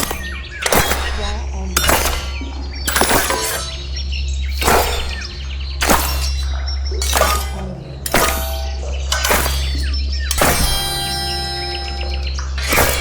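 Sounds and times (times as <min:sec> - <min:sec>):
metal blade clanging strikes: 0:00.0 - 0:13.0
steady low hum: 0:00.0 - 0:13.0.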